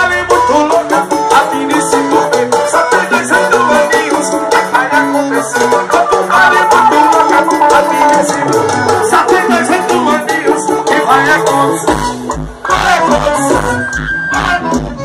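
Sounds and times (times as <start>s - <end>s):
upbeat melodic lead with percussion: 0.0s - 15.0s.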